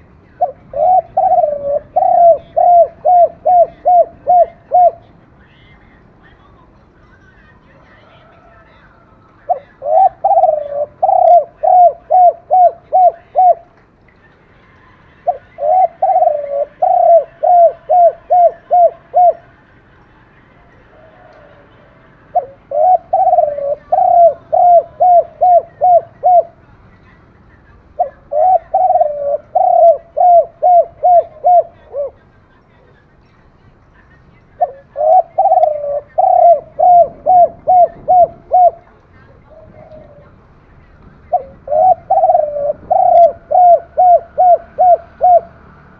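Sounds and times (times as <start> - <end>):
dove cooing: 0.0 - 5.1, 7.8 - 13.8, 15.2 - 19.7, 20.5 - 26.7, 28.0 - 32.9, 34.6 - 40.4, 41.2 - 45.7.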